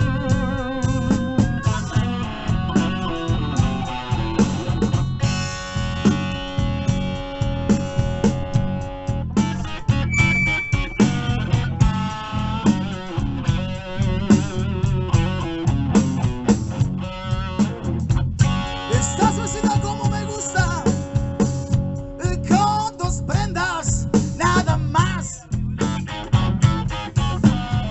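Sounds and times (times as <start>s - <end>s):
blues band playing live: 0.0s - 27.9s.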